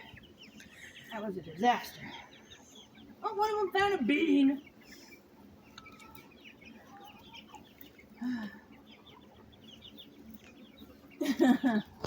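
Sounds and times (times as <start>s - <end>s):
chickens chirping softly: 0.0s - 12.0s.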